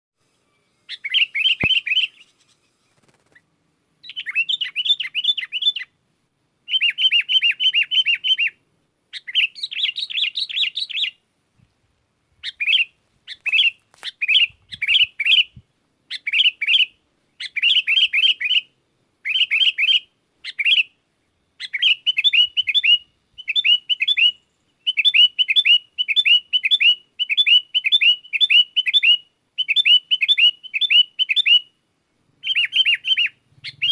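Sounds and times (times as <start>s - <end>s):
bulbul singing: 0.4s - 3.4s, 4.0s - 6.0s, 6.6s - 11.2s, 12.4s - 20.9s, 21.6s - 31.7s, 32.4s - 33.9s.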